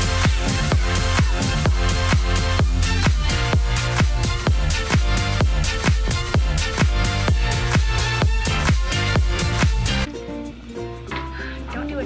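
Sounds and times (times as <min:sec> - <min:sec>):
electronic dance music: 0:00.0 - 0:10.1.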